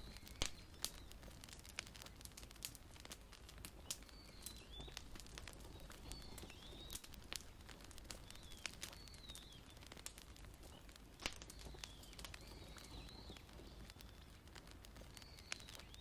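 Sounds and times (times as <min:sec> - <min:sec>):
faint bird chirping: 0:00.0 - 0:01.2, 0:03.6 - 0:16.0
wood fire crackling and popping: 0:00.0 - 0:16.0.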